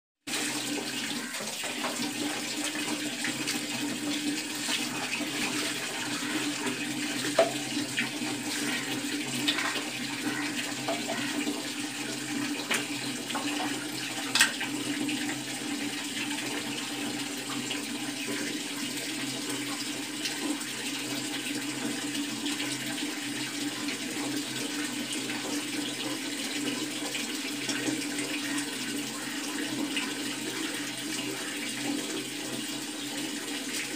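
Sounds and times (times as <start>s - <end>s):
water splashing and running: 0.3s - 33.9s.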